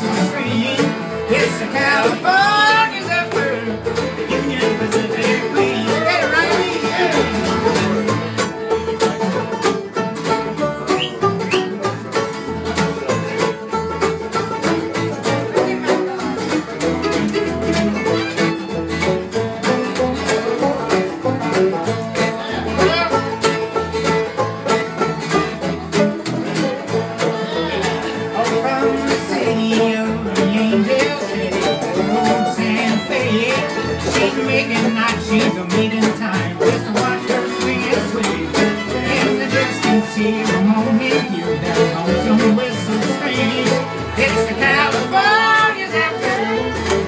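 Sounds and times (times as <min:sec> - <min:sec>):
acoustic guitars strumming: 0:00.0 - 0:47.0
banjo: 0:00.0 - 0:47.0
fiddles playing melody: 0:00.0 - 0:47.0.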